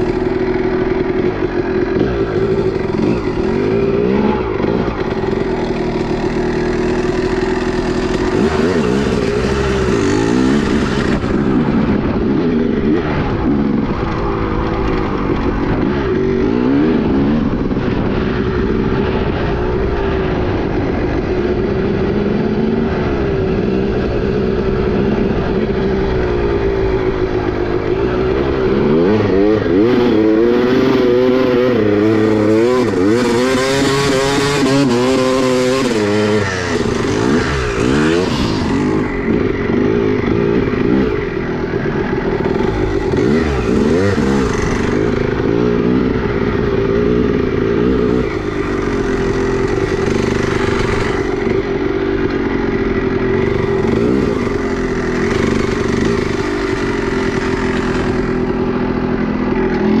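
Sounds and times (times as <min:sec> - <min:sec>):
two-stroke motorcycle engine revving: 0:00.0 - 1:00.0.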